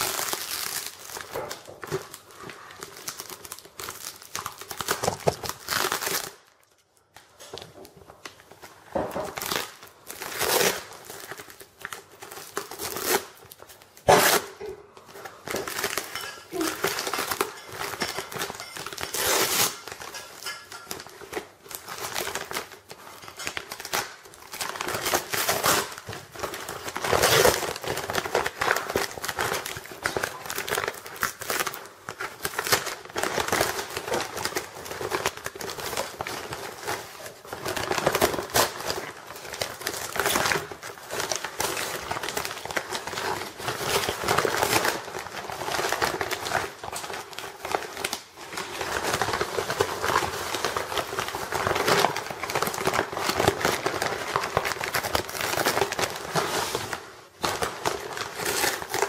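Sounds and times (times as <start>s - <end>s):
paper package crumpling and tearing: 0.0s - 59.0s.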